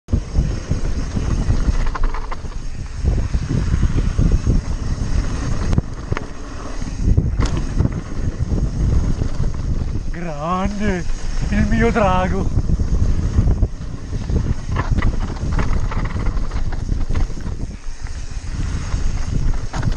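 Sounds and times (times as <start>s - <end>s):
tyre rumble and rattling: 0.1s - 19.9s
wind buffeting microphone: 0.1s - 19.9s.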